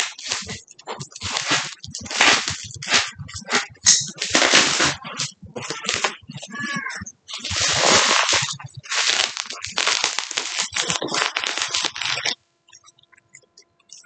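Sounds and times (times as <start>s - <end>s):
bubble wrap crinkling: 0.0s - 12.4s.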